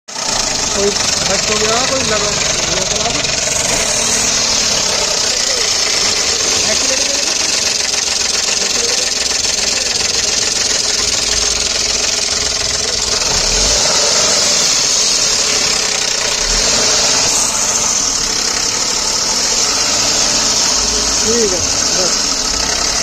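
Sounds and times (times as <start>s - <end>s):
car engine idling: 0.1s - 23.0s
timing chain rattle: 0.1s - 23.0s.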